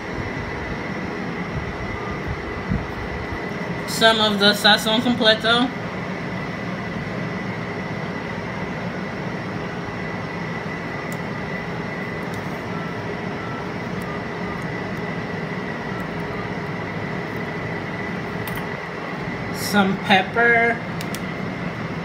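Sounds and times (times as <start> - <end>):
fan-like mechanical hum: 0.0 - 22.0.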